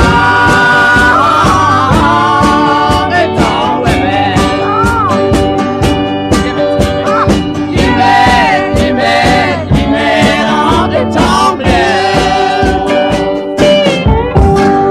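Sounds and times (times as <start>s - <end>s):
country music with singing: 0.0s - 14.9s.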